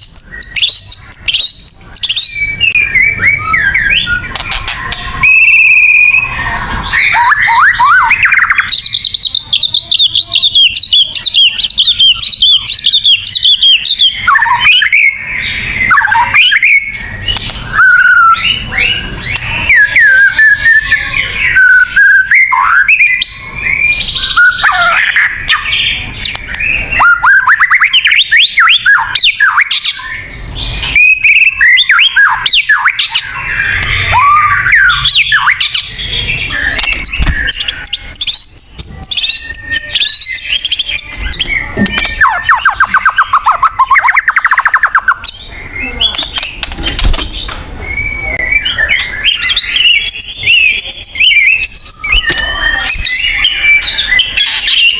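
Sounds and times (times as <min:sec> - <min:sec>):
songbird singing whistles: 0:00.0 - 0:46.7, 0:47.4 - 0:54.9.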